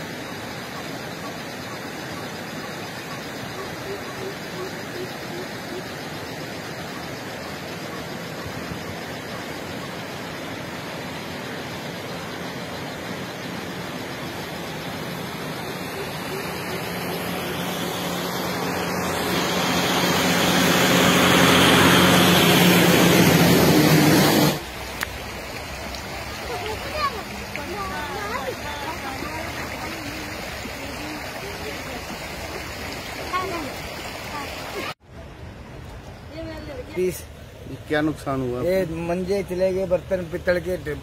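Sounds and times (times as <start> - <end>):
low engine hum: 0.0 - 37.9
rushing river water: 0.0 - 41.0.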